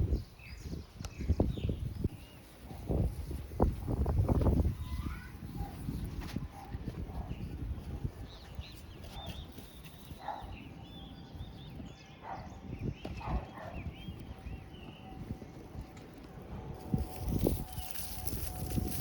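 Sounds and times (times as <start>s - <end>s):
birds chirping: 0.0s - 3.7s, 4.4s - 19.0s
wind buffeting microphone: 0.0s - 19.0s.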